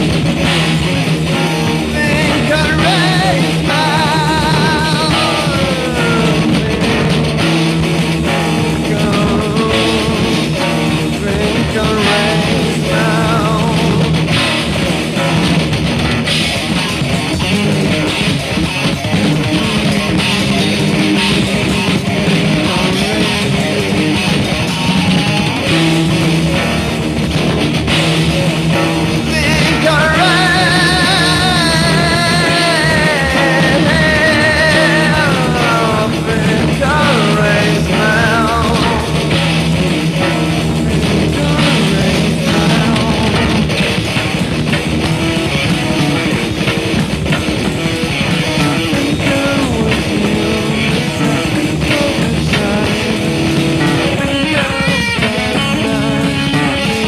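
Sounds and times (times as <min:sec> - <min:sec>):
rock music: 0:00.0 - 0:57.0.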